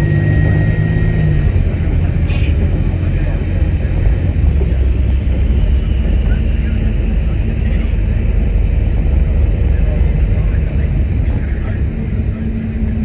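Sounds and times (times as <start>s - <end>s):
bus engine rumbling: 0.0s - 13.0s
road noise: 0.0s - 13.0s.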